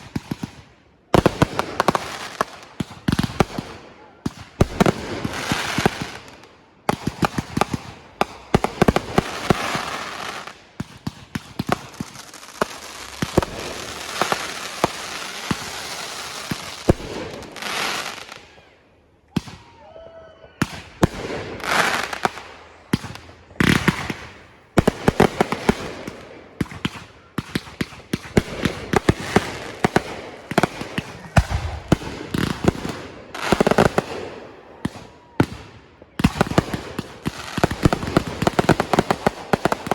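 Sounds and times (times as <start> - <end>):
fireworks bangs: 0.0 - 18.7, 20.6 - 39.9
fireworks crackling: 0.0 - 18.7, 20.6 - 39.9.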